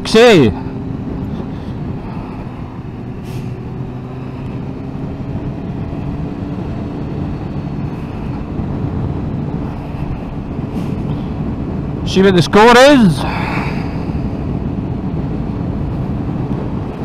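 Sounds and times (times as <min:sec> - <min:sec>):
motorcycle engine at low revs: 0:00.0 - 0:17.0
road and wind noise: 0:00.0 - 0:17.0.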